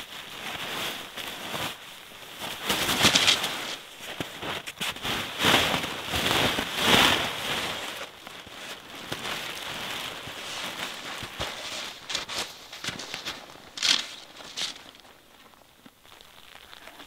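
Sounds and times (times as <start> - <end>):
loud fabric swishes: 0.0 - 15.1
nylon fabric rustling: 0.0 - 17.0.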